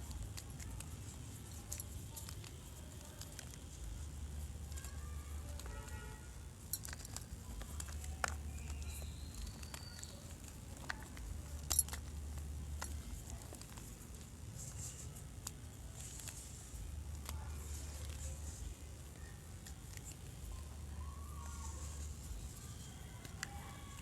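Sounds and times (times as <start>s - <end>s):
chalk crunching and crackling: 0.0s - 24.0s
low steady hum: 0.0s - 24.0s.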